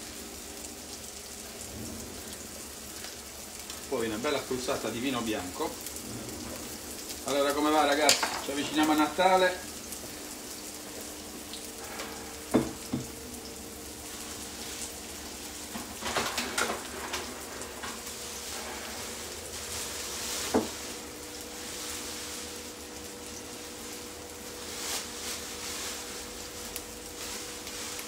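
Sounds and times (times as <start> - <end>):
onions sizzling in a frying pan: 0.0 - 28.0.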